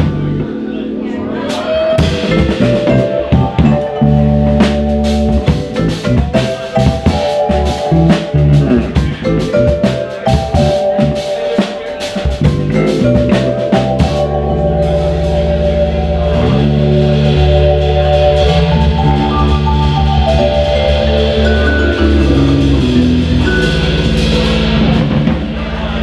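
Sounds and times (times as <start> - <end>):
electric bass guitar: 0.0 - 26.0
vibraphone notes ringing: 0.5 - 25.1
drums and cymbals: 1.5 - 26.0.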